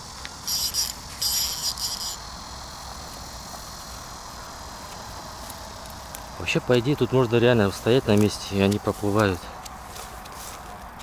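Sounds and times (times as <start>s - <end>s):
insect stridulating buzz: 0.0s - 11.0s
outdoor background noise: 0.0s - 11.0s.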